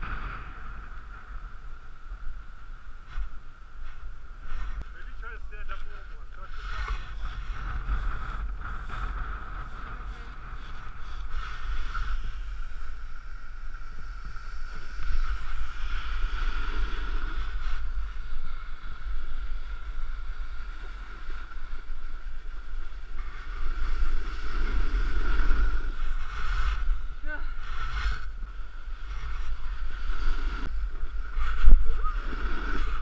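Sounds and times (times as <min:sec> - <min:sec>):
wind buffeting microphone: 0:00.0 - 0:33.0
skis scraping on snow: 0:02.9 - 0:33.0.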